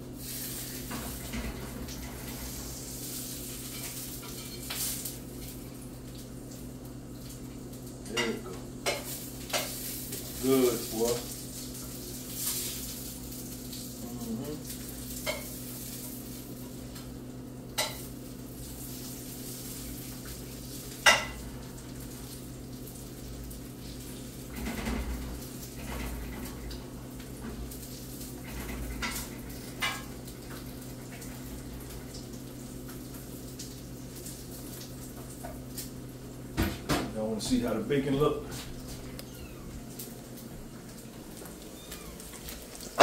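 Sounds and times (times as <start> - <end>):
bacon sizzling: 0.0 - 24.7, 25.3 - 36.6, 37.9 - 43.0.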